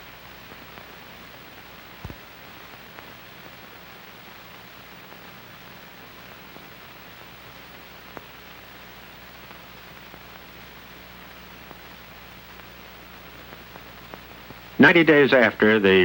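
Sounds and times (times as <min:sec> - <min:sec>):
film soundtrack hiss: 0:00.0 - 0:16.0
low electrical hum: 0:00.0 - 0:16.0.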